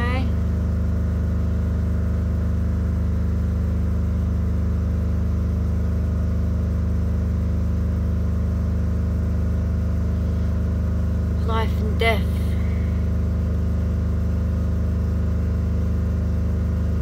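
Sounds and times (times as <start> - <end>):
engine running hum: 0.0 - 17.0.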